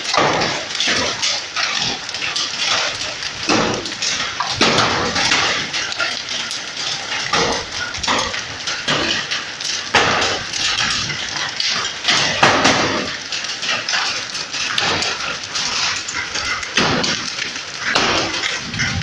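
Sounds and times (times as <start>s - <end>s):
hailstones striking surfaces: 0.0s - 19.0s.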